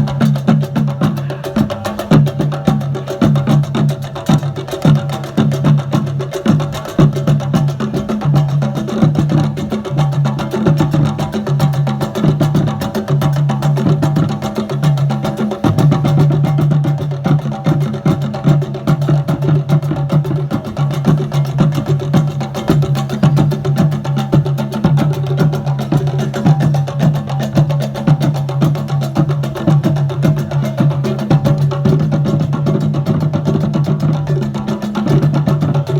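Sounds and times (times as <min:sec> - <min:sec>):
fast percussion beat: 0:00.0 - 0:35.9.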